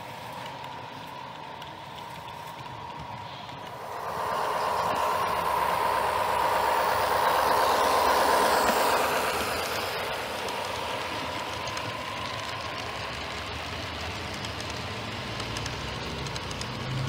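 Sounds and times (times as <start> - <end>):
low hum: 0.0 - 16.8
locomotive sound: 0.0 - 17.0
model train cars rolling: 0.0 - 17.0
wheels clicking: 0.0 - 17.0.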